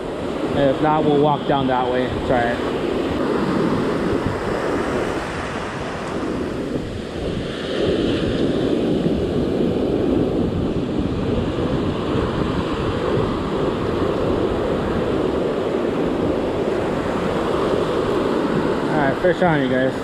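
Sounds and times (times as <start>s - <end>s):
ocean surf breaking: 0.0s - 20.0s
wind blowing on microphone: 0.0s - 20.0s.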